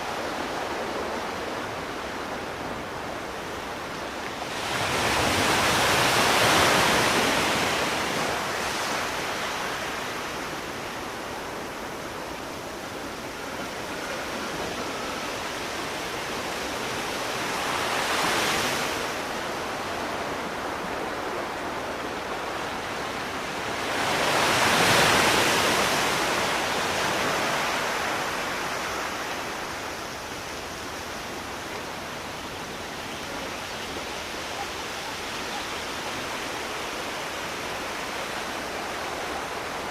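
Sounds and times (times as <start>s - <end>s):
sea waves washing in: 0.0s - 39.9s
steady surf hiss: 0.0s - 39.9s.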